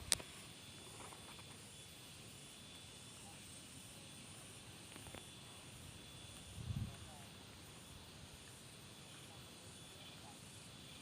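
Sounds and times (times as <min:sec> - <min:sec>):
faint outdoor background hiss: 0:00.0 - 0:11.0.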